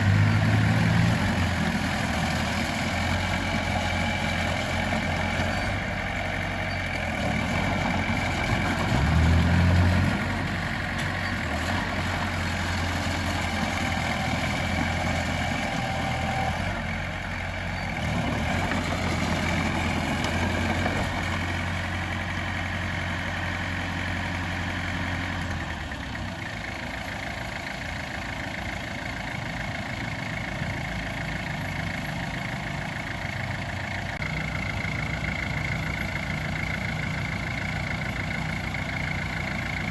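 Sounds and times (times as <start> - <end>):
diesel engine of earthmoving equipment: 0.0 - 39.9.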